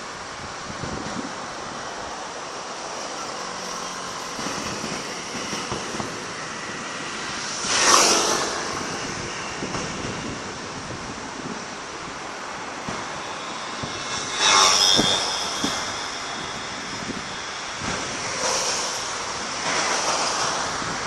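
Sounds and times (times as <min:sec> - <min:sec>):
fireworks rushing noise: 0:03.7 - 0:21.0.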